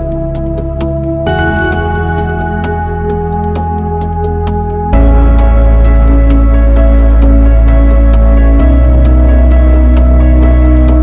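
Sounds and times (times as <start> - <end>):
deep bass: 0.0 - 11.0
synth chords: 0.0 - 11.0.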